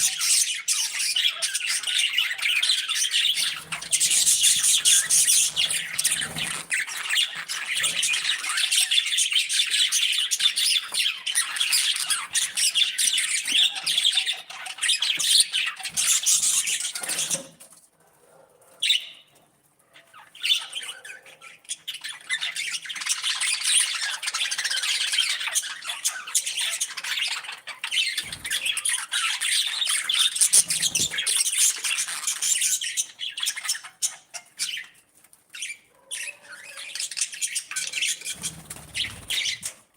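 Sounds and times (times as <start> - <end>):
budgies and parrots chirping: 0.0 - 39.9.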